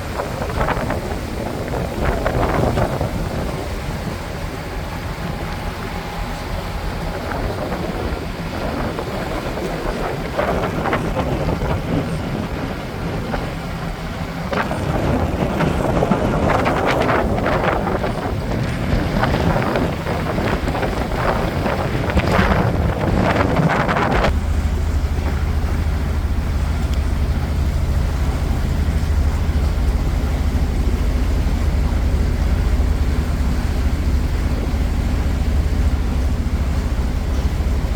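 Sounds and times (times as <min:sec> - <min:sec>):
boat engine running: 0:00.0 - 0:37.9
wind buffeting microphone: 0:00.0 - 0:37.9.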